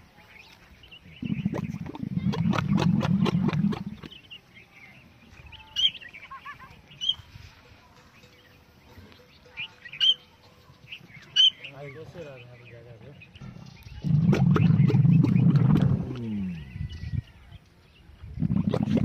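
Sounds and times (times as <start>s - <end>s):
bird chirps: 0.2s - 18.8s.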